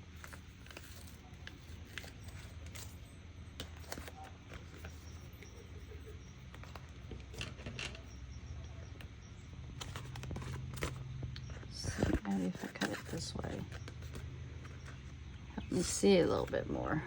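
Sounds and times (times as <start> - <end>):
paper rustling: 0.0 - 8.1, 9.7 - 16.8
steady low hum: 0.0 - 17.0.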